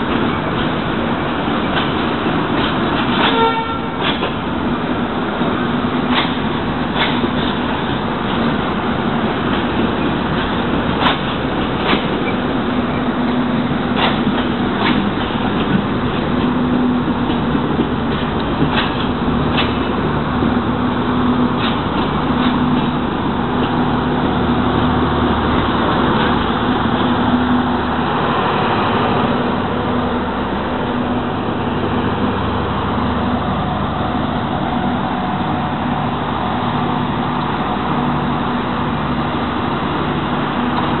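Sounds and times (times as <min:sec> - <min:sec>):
train wheels clacking over rail joints: 0:00.0 - 0:35.5
diesel generator running: 0:00.0 - 0:41.0
train rumble: 0:00.0 - 0:41.0.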